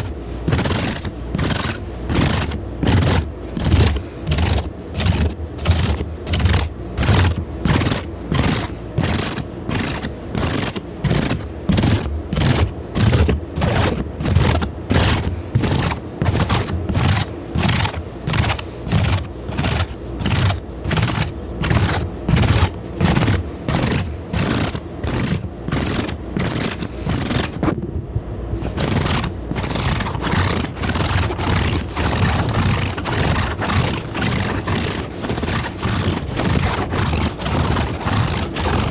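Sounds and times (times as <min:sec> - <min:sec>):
rhythmic scraping strokes: 0:00.0 - 0:27.6, 0:28.6 - 0:38.9.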